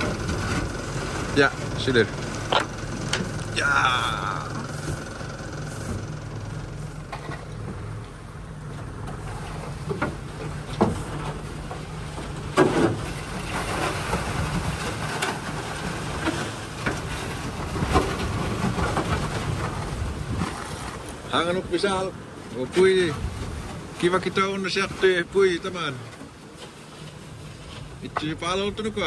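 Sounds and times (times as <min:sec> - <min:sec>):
boat motor humming: 0:00.0 - 0:29.0.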